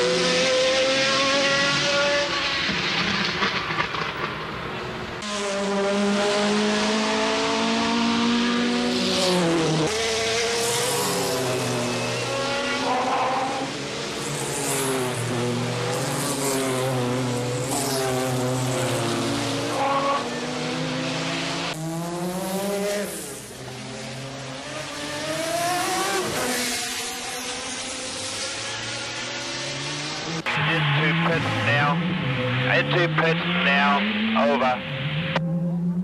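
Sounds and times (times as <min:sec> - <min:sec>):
race car engines: 0:00.0 - 0:36.0.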